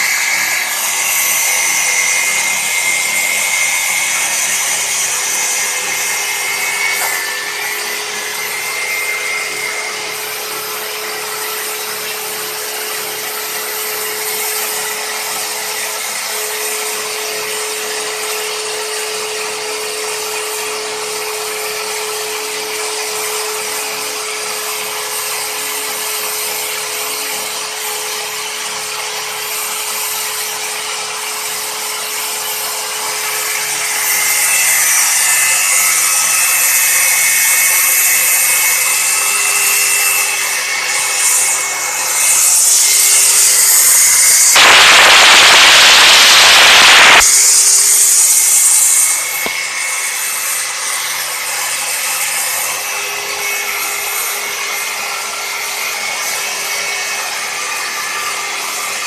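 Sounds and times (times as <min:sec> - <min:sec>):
angle grinder cutting metal: 0:00.0 - 0:59.0.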